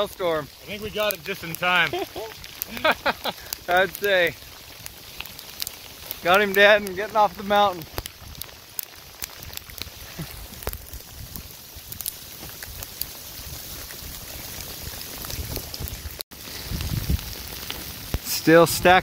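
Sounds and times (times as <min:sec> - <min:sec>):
steady hiss: 0:00.0 - 0:15.8
hailstones striking ground: 0:00.0 - 0:19.0.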